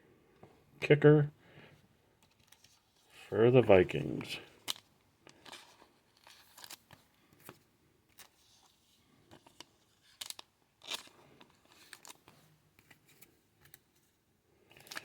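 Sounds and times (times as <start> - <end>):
trading cards clicking and rustling: 2.2 - 14.1, 14.7 - 15.0.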